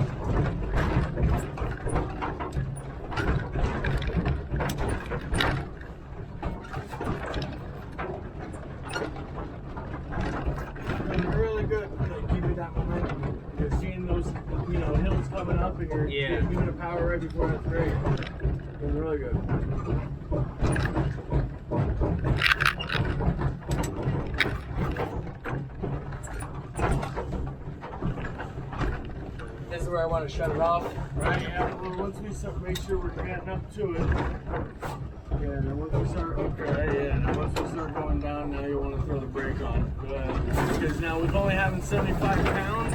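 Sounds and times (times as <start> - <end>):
locomotive knocks and clanks: 0.0 - 42.9.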